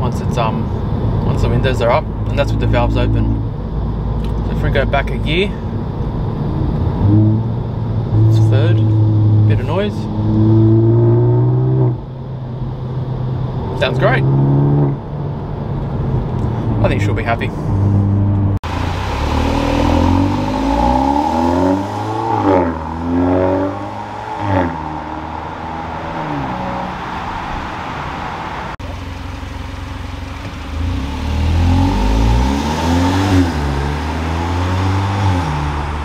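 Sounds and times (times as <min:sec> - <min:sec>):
car engine accelerating: 0:00.6 - 0:36.0.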